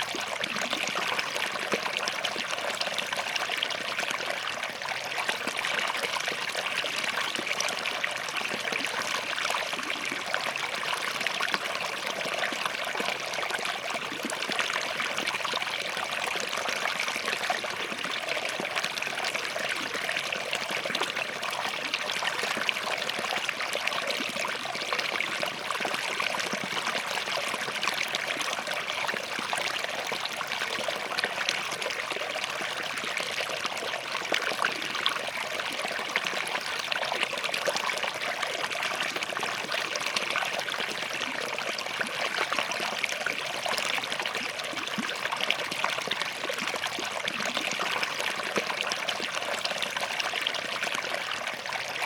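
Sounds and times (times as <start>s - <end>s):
stream babbling over rocks: 0.0s - 52.0s.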